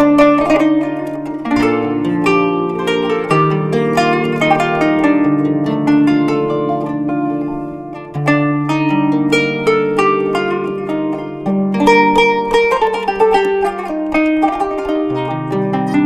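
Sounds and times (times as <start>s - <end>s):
plucked zither notes: 0.0s - 16.0s.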